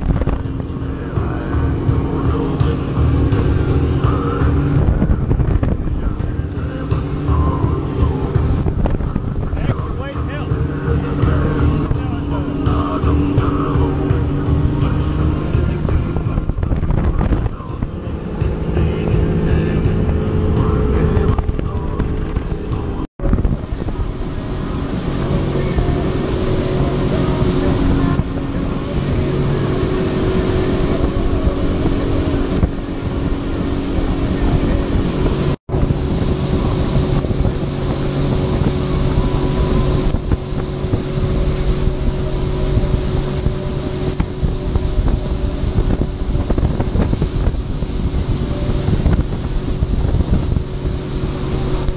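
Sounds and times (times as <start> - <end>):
water rushing and spraying: 0.0 - 51.9
watercraft engine running: 0.0 - 51.9
wind buffeting microphone: 0.0 - 51.9.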